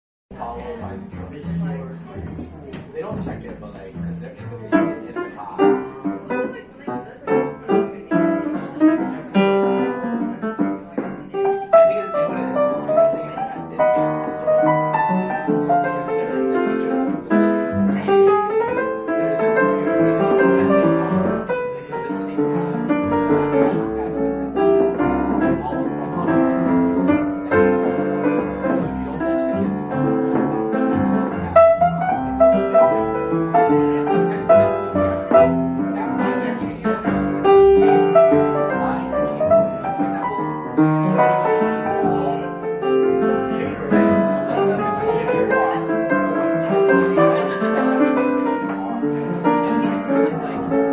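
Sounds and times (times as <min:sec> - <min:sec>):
jazz piano playing: 0:00.3 - 0:50.9
people chatting: 0:00.3 - 0:50.9.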